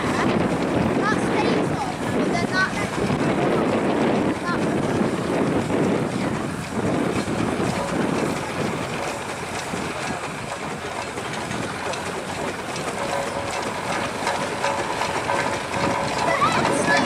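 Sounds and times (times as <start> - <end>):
plough frame and chains clanking: 0.0 - 17.0.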